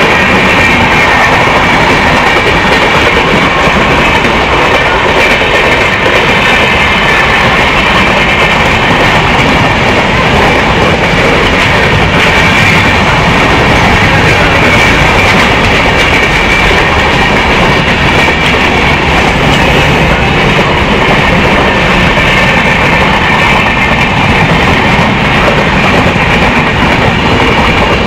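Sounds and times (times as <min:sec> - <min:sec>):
passenger trains running: 0:00.0 - 0:28.0.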